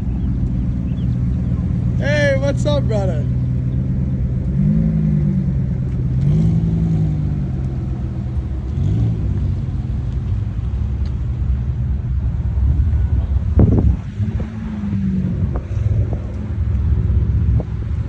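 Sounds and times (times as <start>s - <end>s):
car engines rumbling: 0.0s - 18.0s.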